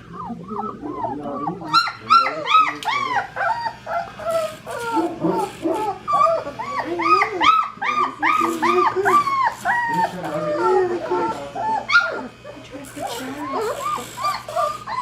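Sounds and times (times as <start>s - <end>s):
puppies whining and yelping: 0.0s - 15.0s.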